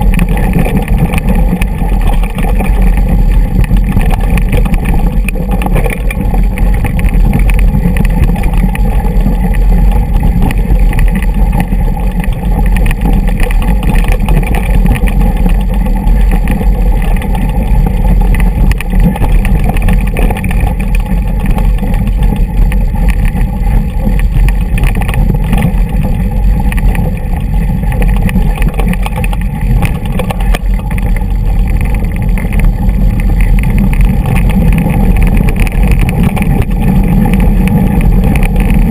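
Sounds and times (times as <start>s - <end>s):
bike tyres rumbling over rocks: 0.0s - 38.9s
rattle of jolts over stones: 0.0s - 38.9s
wind buffeting microphone: 0.0s - 38.9s.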